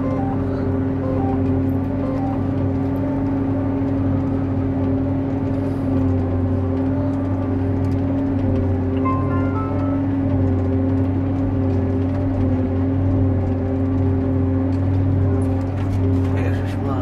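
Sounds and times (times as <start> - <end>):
forage harvester drone: 0.0 - 17.0.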